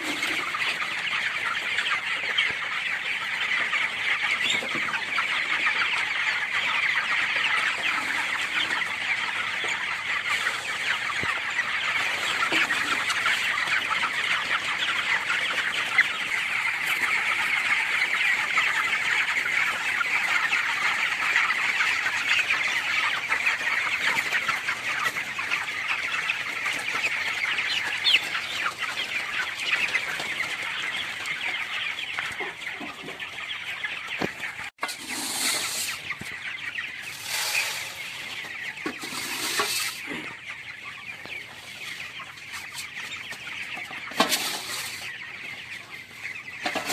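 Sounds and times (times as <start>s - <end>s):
chicks cheeping and clucking: 0.0s - 46.9s.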